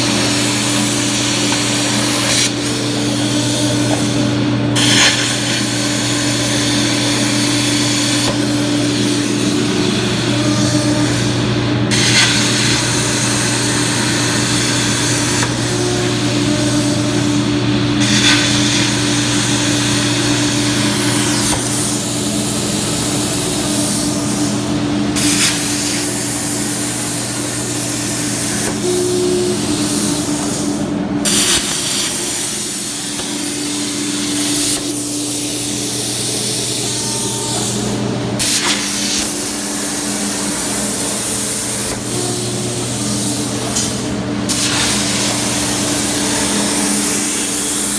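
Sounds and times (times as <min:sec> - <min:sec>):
cutting torch hissing: 0:00.0 - 0:47.9
machine hum: 0:00.0 - 0:47.9.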